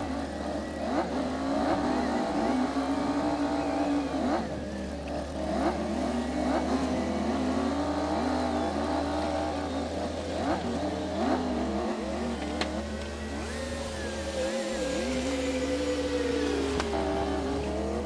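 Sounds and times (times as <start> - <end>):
bulldozer diesel engine under load: 0.0 - 18.0.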